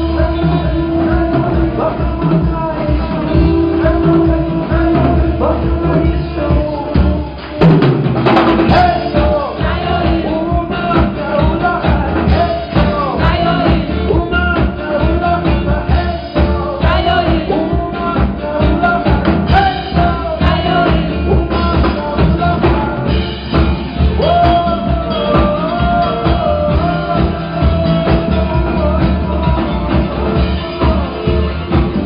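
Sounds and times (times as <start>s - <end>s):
bass guitar: 0.0s - 32.0s
drum beat: 0.0s - 32.0s
electric guitar: 0.0s - 32.0s
person singing: 0.0s - 32.0s.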